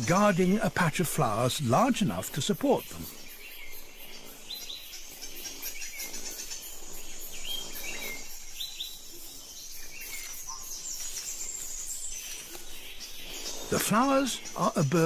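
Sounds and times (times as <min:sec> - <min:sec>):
birds chirping: 0:00.0 - 0:15.0
faint forest ambience: 0:00.0 - 0:15.0.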